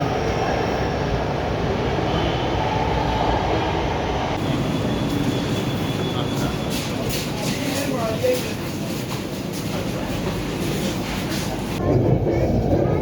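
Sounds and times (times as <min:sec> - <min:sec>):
metro train running: 0:00.0 - 0:13.0.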